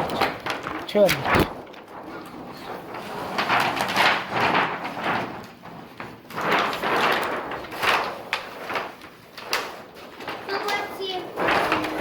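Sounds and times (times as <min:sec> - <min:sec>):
thin sheet scraping and rustling: 0:00.0 - 0:12.0.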